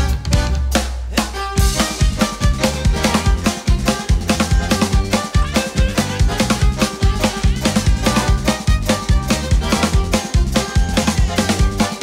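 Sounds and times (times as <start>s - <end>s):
drum kit groove: 0.0s - 12.0s
pitched backing music: 0.0s - 12.0s.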